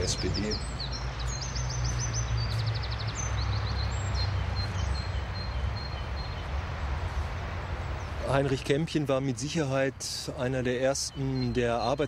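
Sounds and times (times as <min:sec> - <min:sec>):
songbirds trilling: 0:00.0 - 0:12.0.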